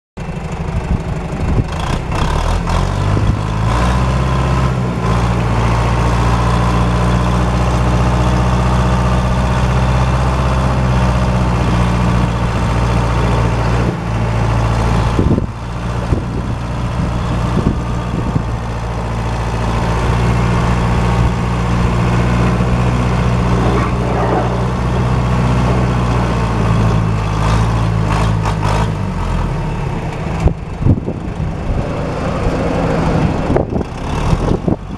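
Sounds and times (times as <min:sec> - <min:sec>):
backhoe engine running: 0:00.2 - 0:34.9.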